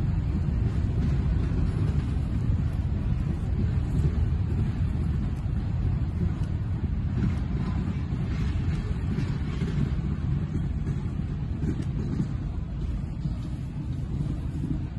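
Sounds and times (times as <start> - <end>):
freight train rolling on rails: 0.0 - 14.9
wind buffeting microphone: 0.0 - 14.9.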